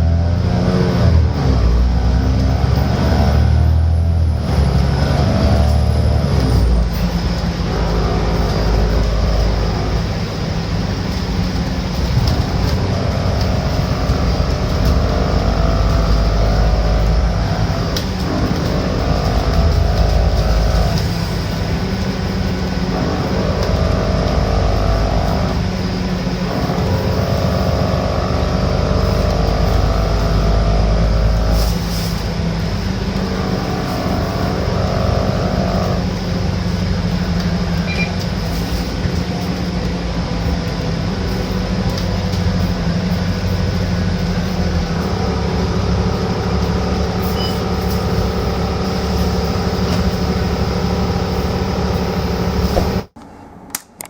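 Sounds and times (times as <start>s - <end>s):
bus diesel engine rumble: 0.0s - 53.7s
whining tones: 2.3s - 53.8s.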